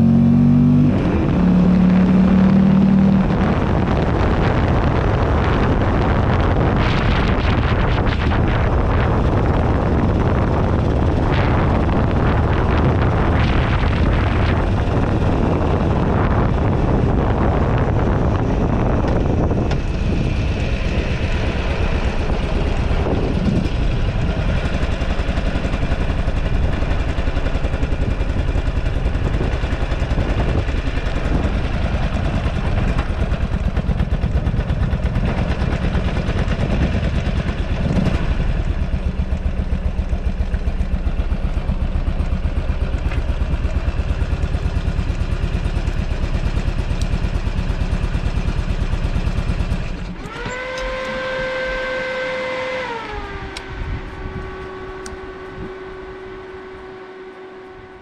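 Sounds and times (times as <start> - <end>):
motorcycle engine idling: 3.7 - 52.5.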